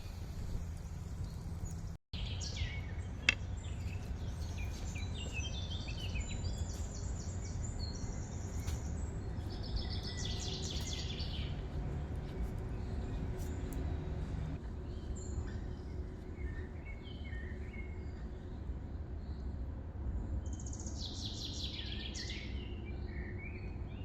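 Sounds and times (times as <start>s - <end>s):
birds singing trills: 0.0s - 19.6s, 20.2s - 24.0s.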